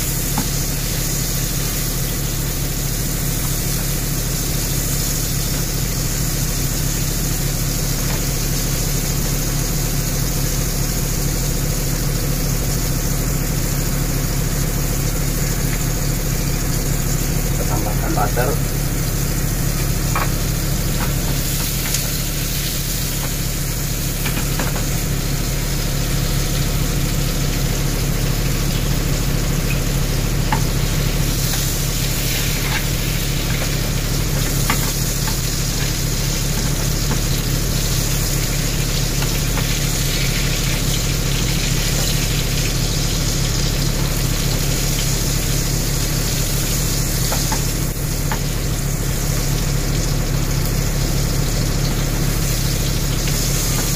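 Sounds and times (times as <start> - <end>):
steady low hum: 0.0 - 53.9
steak sizzling on grill: 0.0 - 53.9.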